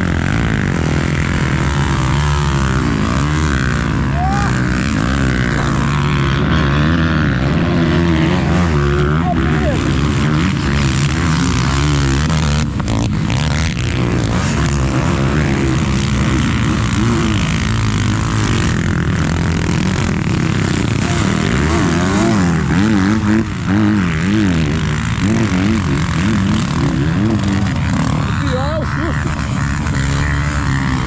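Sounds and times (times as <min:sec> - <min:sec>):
vehicle engine running under load: 0:00.0 - 0:31.0.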